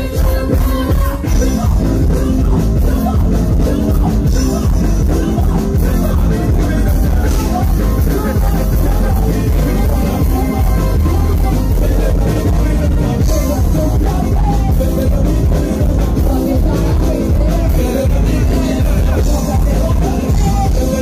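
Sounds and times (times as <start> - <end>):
loud live band music: 0.0 - 21.0.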